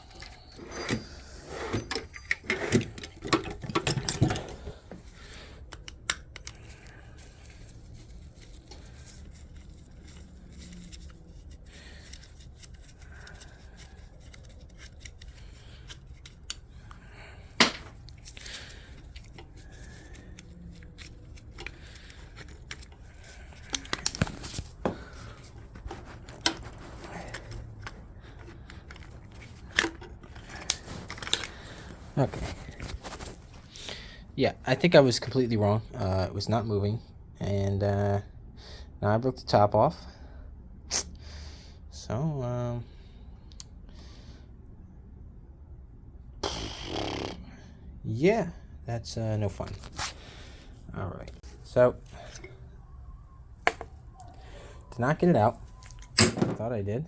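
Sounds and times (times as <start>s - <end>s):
low steady hum: 0.0s - 46.4s, 47.4s - 57.0s.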